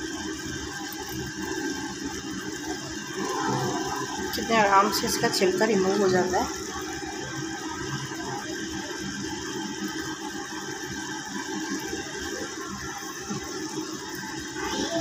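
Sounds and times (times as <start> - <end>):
vegetables simmering in oil: 0.0 - 15.0.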